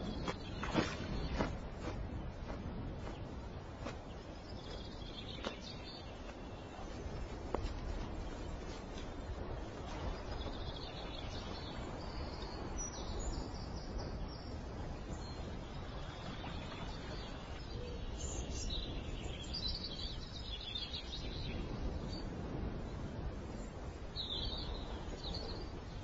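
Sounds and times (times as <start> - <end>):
rushing outdoor background noise: 0.0 - 26.0.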